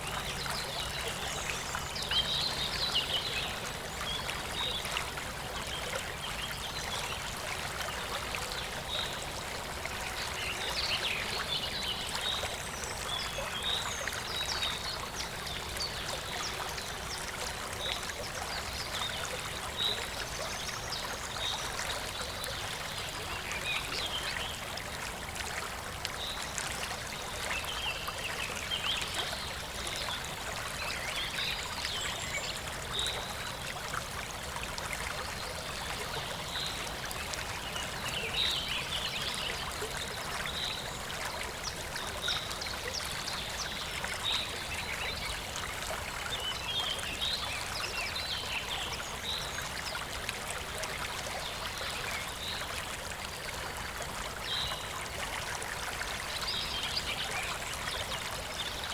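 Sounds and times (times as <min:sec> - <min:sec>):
stream flowing and babbling: 0:00.0 - 0:58.9.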